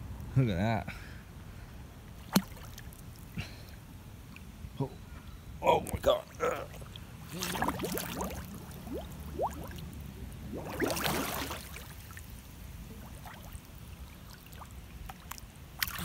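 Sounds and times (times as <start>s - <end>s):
pool water splashing: 2.0s - 4.8s, 5.6s - 16.0s.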